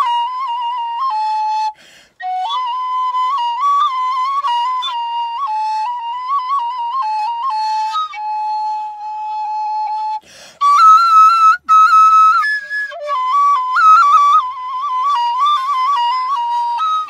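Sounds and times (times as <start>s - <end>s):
wooden flute melody: 0.0s - 17.0s.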